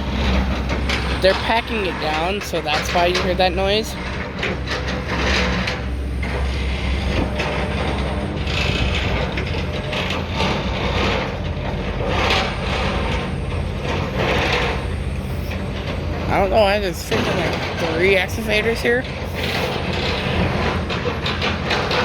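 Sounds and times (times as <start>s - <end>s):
compacting machine engine drone: 0.0s - 22.0s.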